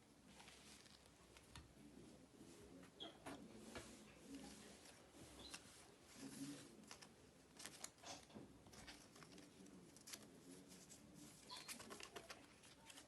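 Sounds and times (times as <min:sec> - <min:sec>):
plastic and paper rustling: 0:00.3 - 0:01.6, 0:03.6 - 0:13.0.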